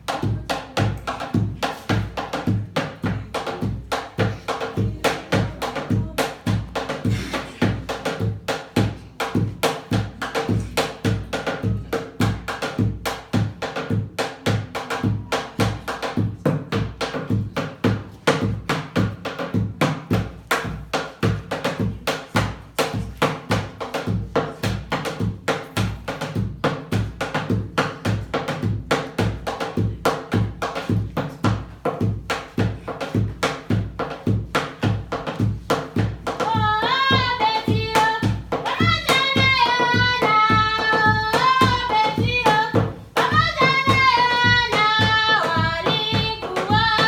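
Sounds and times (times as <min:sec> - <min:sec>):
drum percussion music: 0:00.0 - 0:47.0.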